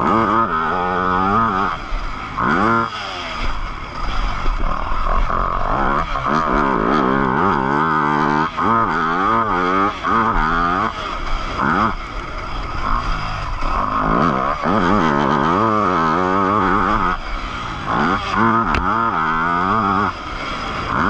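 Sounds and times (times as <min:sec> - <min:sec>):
motocross bike engine revving: 0:00.0 - 0:21.0.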